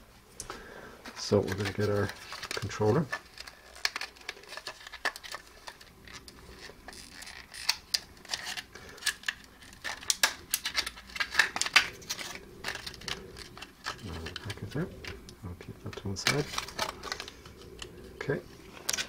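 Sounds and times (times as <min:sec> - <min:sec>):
plastic blister pack crinkling: 0:01.0 - 0:19.0.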